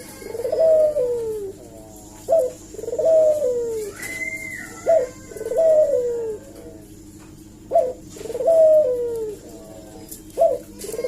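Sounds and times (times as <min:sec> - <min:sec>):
dove cooing: 0:00.0 - 0:07.0, 0:07.6 - 0:11.0.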